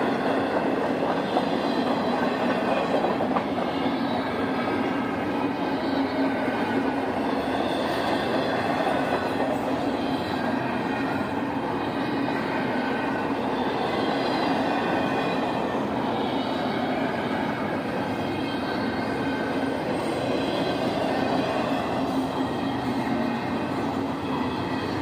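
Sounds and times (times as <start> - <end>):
train rumbling past: 0.0 - 25.0.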